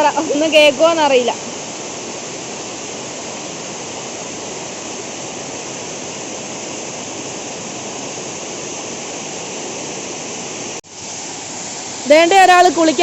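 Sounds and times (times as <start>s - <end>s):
waterfall rushing onto rock: 0.0s - 13.0s.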